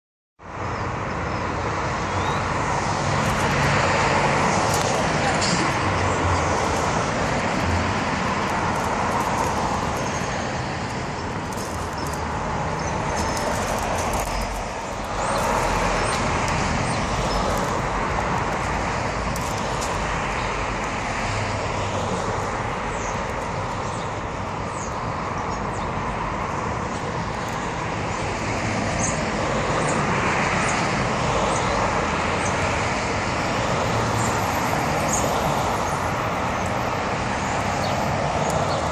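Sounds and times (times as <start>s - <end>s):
cars passing on city street: 0.4s - 38.9s.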